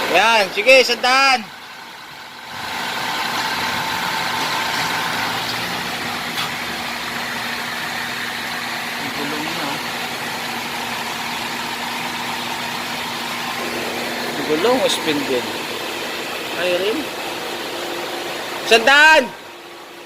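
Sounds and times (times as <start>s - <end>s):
road noise of spinning wheels: 0.0s - 20.0s.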